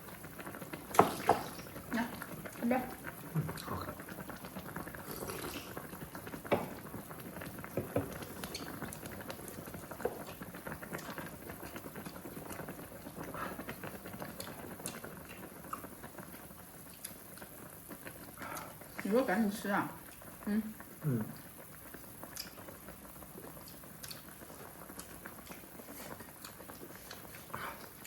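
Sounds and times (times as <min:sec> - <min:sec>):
broth bubbling at a boil: 0:00.0 - 0:28.0.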